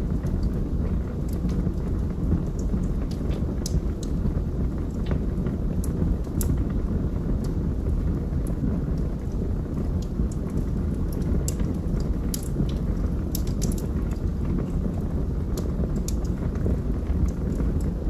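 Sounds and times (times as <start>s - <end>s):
burning logs crackling and popping: 0.0s - 18.0s
flames rumbling: 0.0s - 18.0s.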